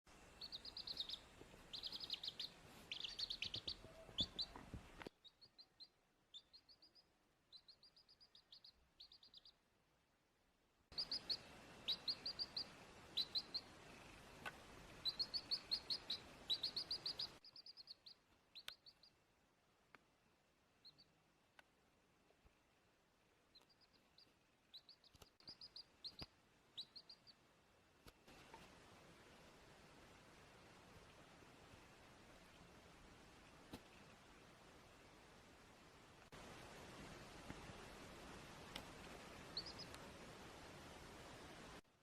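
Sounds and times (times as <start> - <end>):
background hiss: 0.1 - 42.0.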